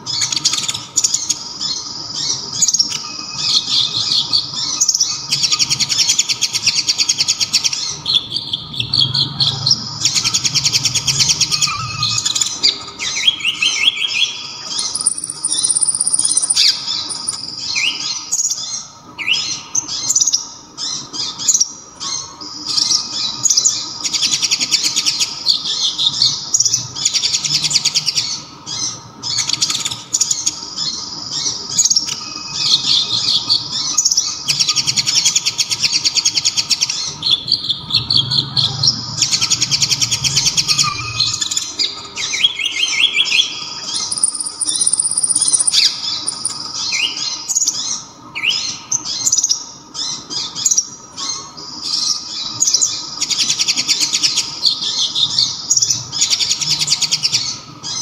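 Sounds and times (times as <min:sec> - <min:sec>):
bird singing rapid trills: 0:00.0 - 0:58.0
bird whistles: 0:00.2 - 0:28.4, 0:30.8 - 0:55.5.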